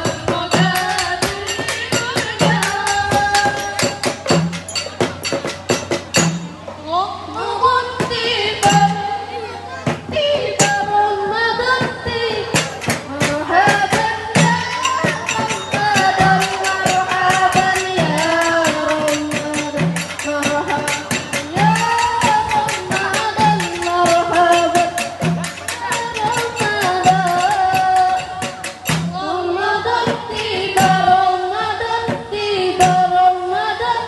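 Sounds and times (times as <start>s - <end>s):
women singing: 0.0s - 4.4s, 6.8s - 34.0s.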